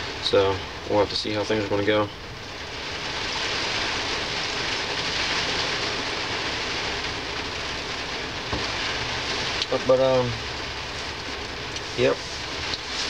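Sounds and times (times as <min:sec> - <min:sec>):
rain on a vehicle roof: 0:00.0 - 0:13.0.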